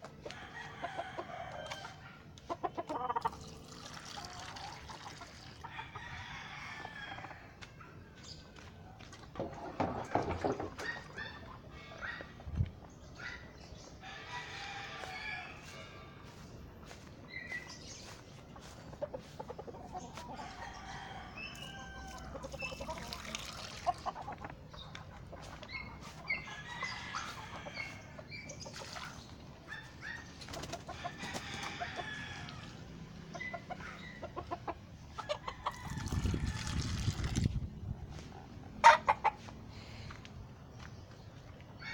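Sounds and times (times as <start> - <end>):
chickens clucking and calling: 0.0 - 41.9.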